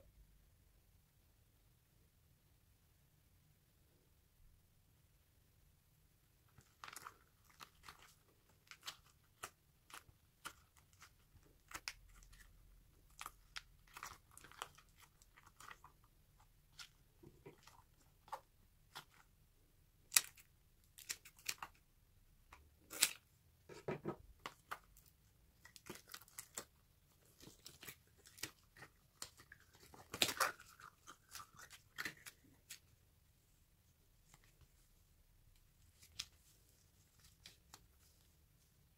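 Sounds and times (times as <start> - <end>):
rubber toy crackling and squishing: 6.3 - 38.9.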